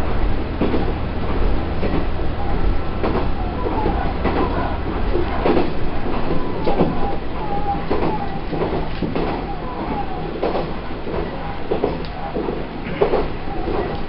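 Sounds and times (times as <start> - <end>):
railcar engine drone: 0.0 - 14.0.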